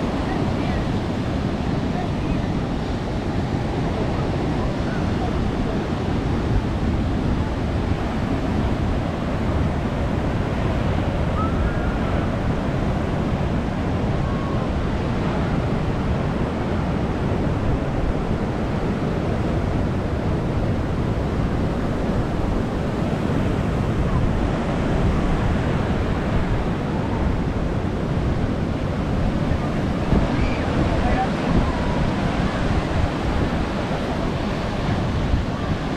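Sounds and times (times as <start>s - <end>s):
ocean waves breaking: 0.0s - 35.9s
wind on microphone: 0.0s - 35.9s.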